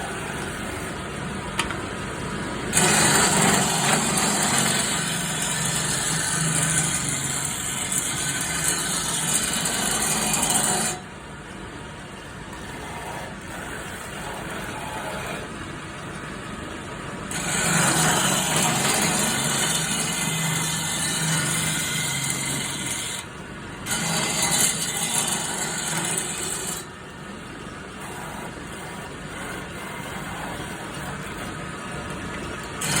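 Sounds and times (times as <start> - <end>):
turning tool scraping wood: 0.0 - 1.8, 2.7 - 11.0, 12.6 - 15.5, 17.3 - 23.2, 23.9 - 26.9, 28.0 - 33.0
lathe motor humming: 0.0 - 11.0, 17.3 - 33.0.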